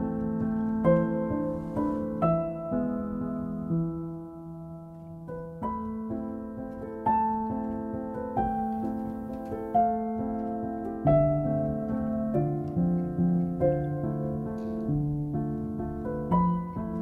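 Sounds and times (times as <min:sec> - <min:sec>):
calm keyboard music: 0:00.0 - 0:17.0.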